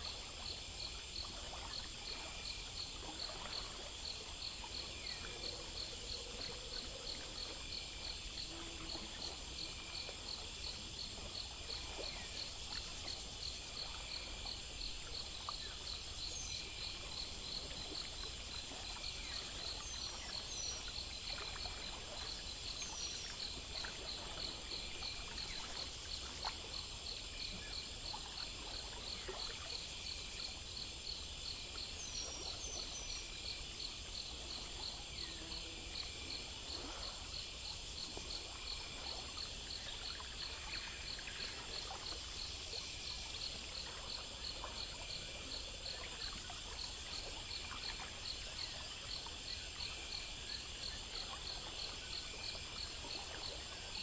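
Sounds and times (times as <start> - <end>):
crickets and insects chirping: 0.0 - 54.0
trickle of running water: 0.0 - 54.0.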